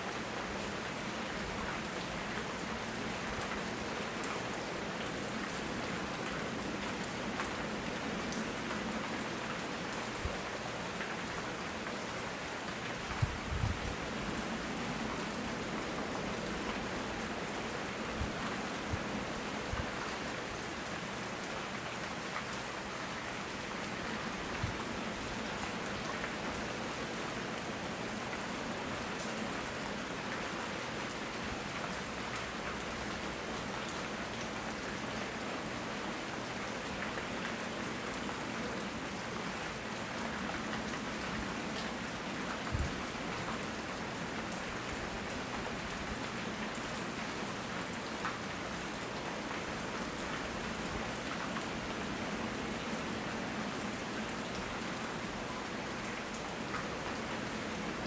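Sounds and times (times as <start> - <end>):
rain pattering on surfaces: 0.0 - 58.0.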